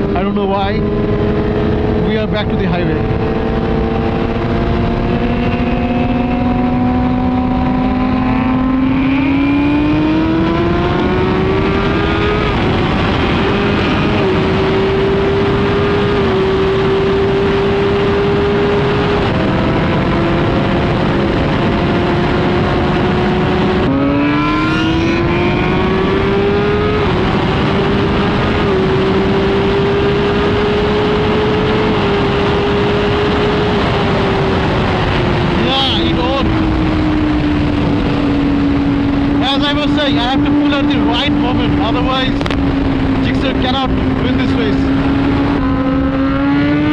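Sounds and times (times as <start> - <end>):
motorcycle engine accelerating: 0.0 - 46.9
wind rushing: 0.0 - 46.9.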